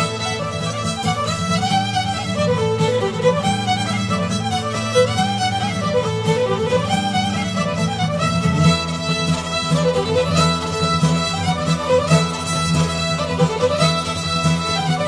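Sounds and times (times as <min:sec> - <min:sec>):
fiddle melody: 0:00.0 - 0:15.0
lower accompaniment: 0:00.0 - 0:15.0.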